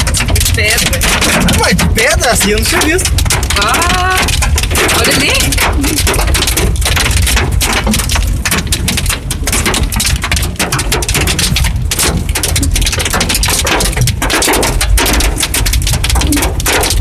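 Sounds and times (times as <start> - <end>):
hailstones clattering: 0.0 - 17.0
heavy rain: 0.0 - 17.0.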